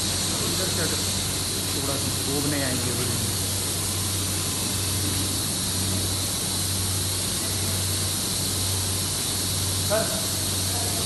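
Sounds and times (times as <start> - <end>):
hiss of air: 0.0 - 11.0
machinery electrical hum: 0.0 - 11.0.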